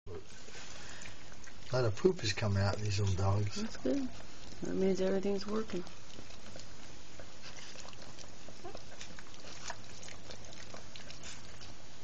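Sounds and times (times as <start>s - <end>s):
dog licking wetly: 0.3s - 12.0s.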